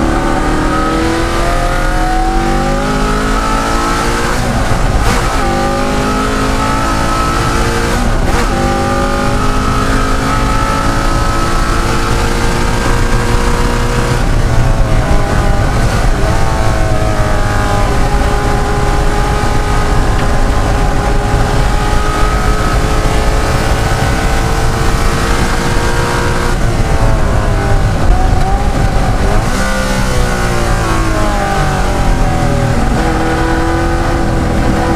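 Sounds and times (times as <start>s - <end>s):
race car engine revving: 0.0s - 34.9s.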